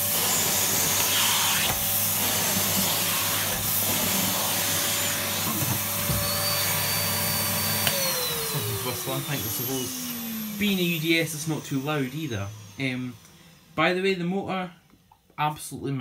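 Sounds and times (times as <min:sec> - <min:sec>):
vacuum cleaner running: 0:00.0 - 0:14.5.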